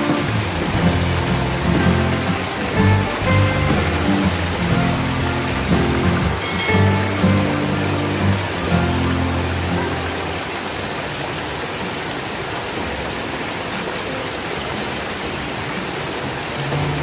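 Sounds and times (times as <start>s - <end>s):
water running in a ditch: 0.0s - 17.0s.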